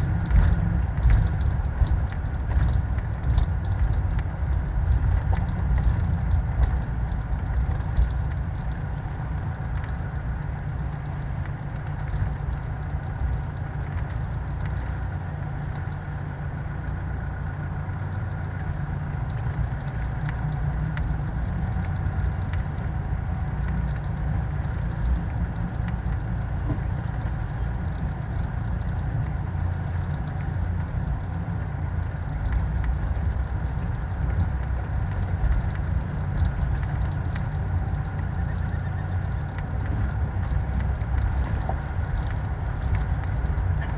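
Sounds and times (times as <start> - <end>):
vehicle rumble: 0.0 - 43.9.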